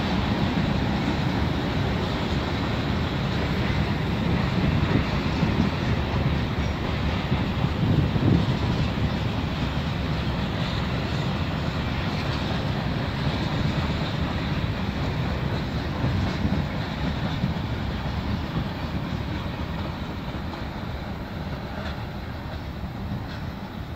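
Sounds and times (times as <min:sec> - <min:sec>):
freight train cars rumbling: 0:00.0 - 0:23.9.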